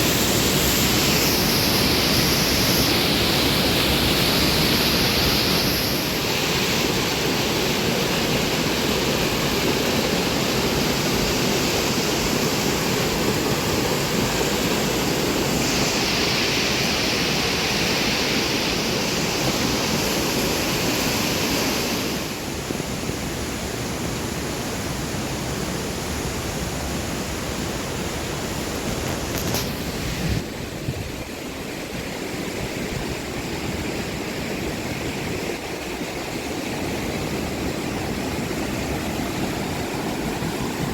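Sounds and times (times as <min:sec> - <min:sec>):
waterfall and river rushing: 0:00.0 - 0:40.9.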